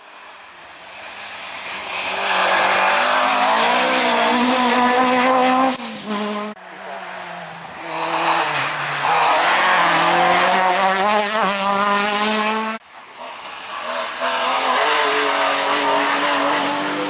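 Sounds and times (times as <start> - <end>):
rally car accelerating: 1.2 - 17.0
rally car engine at high revs: 1.5 - 17.0.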